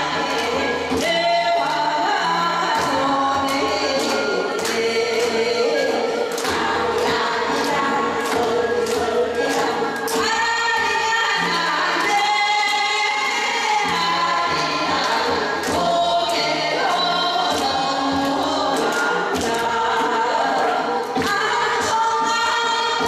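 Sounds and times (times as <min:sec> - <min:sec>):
musical accompaniment: 0:00.0 - 0:23.0
person singing: 0:00.0 - 0:23.0
sharp percussion strikes: 0:00.0 - 0:23.0.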